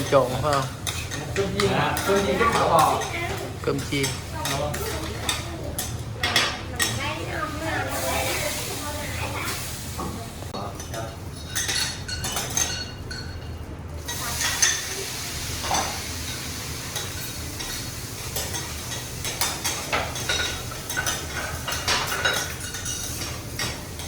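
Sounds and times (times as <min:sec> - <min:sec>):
rice sizzling on a griddle: 0:00.0 - 0:13.4, 0:14.0 - 0:24.0.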